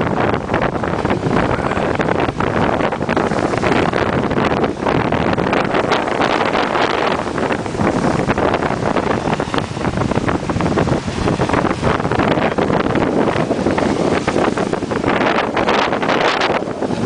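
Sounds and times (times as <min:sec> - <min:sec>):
lake waves splashing on shore: 0:00.0 - 0:17.0
strong wind buffeting microphone: 0:00.0 - 0:17.0.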